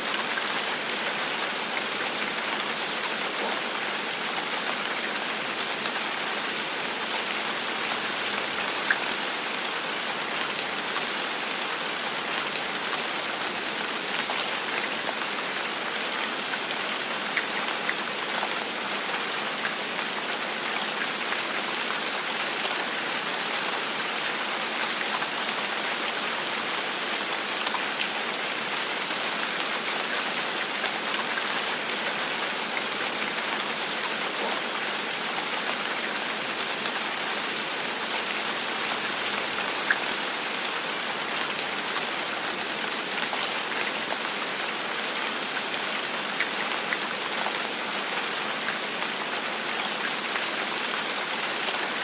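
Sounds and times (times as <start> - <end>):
gentle rain falling: 0.0 - 52.0.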